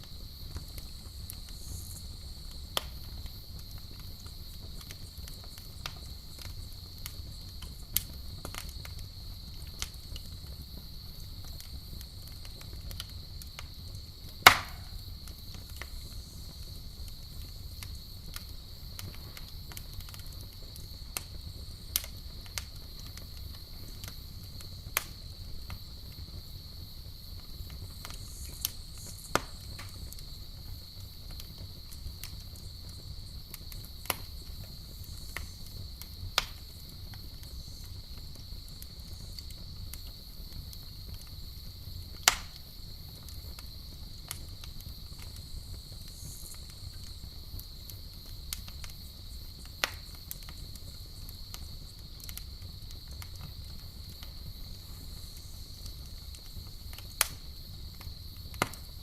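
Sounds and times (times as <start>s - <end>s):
campfire crackling: 0.0s - 59.0s
night insects trilling: 0.0s - 59.0s.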